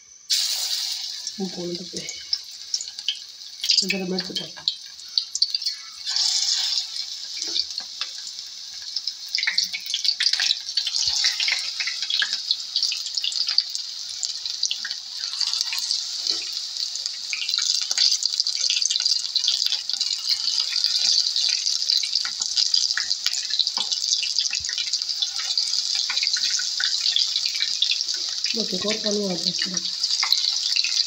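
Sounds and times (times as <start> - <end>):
batter sizzling in hot oil: 0.3 - 31.0.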